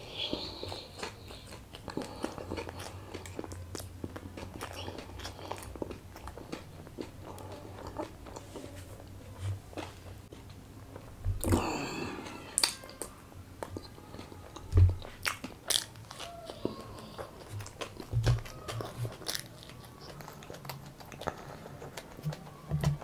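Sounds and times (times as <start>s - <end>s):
person chewing with wet mouth clicks: 0.0s - 9.1s, 10.9s - 23.0s.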